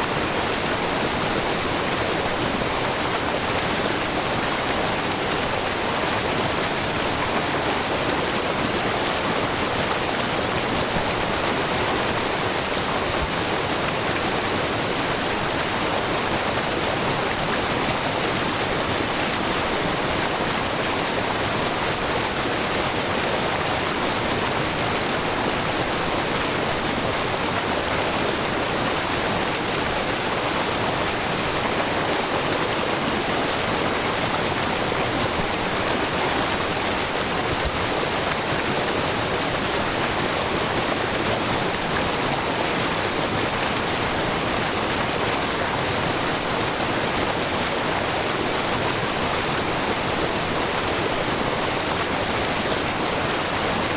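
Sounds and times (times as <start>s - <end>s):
waterfall pouring over rock: 0.0s - 53.9s.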